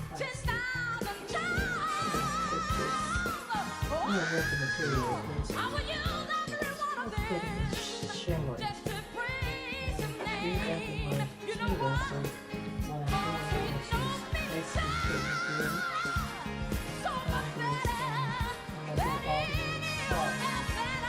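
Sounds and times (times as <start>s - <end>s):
pop song with singing: 0.0s - 21.0s.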